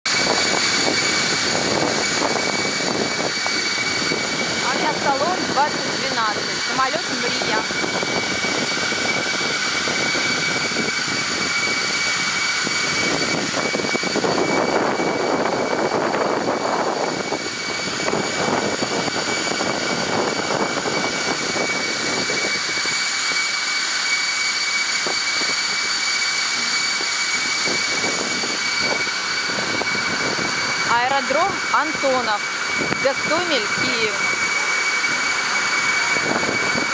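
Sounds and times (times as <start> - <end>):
jet engines whining: 0.0 - 36.9.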